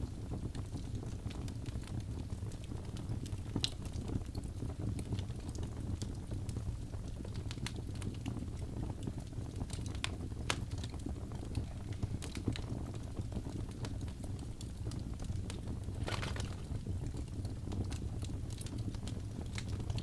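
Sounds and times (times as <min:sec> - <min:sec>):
fire popping and snapping: 0:00.0 - 0:20.0
low rumble of flames: 0:00.0 - 0:20.0.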